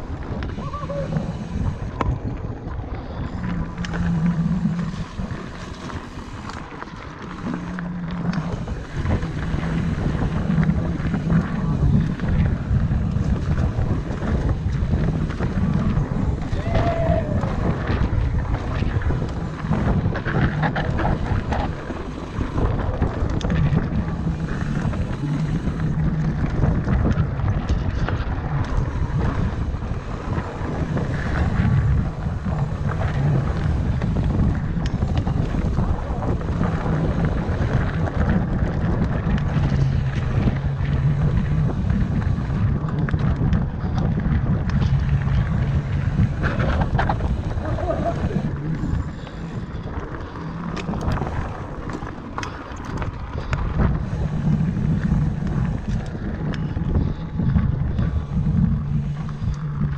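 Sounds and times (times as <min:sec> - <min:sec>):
bike tyres rushing and rattling: 0:00.0 - 0:59.9
low buzz: 0:00.0 - 0:59.9
wind buffeting microphone: 0:00.0 - 0:59.9.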